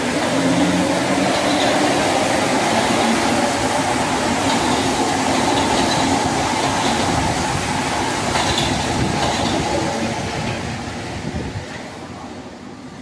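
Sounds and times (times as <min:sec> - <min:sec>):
subway train rushing past: 0:00.0 - 0:13.0.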